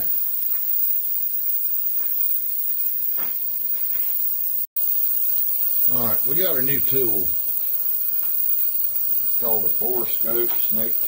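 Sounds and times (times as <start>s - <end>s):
high-pitched background hiss: 0.0s - 11.0s.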